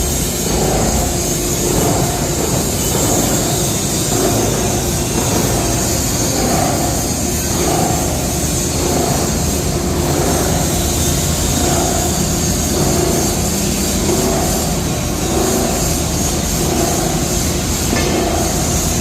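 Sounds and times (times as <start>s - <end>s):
industrial machinery din: 0.0s - 19.0s.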